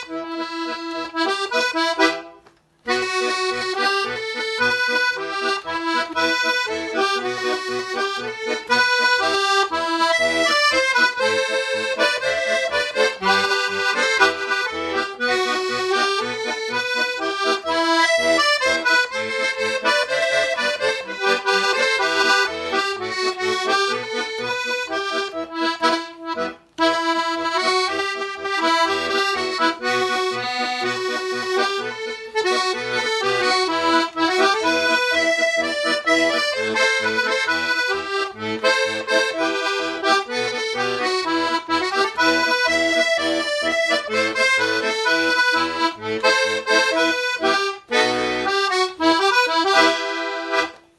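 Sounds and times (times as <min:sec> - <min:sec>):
button accordion playing folk tune: 0:00.0 - 0:50.9.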